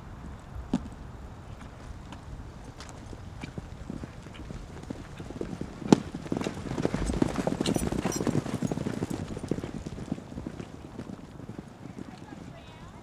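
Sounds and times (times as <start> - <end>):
horses galloping on dirt: 0.0 - 13.0.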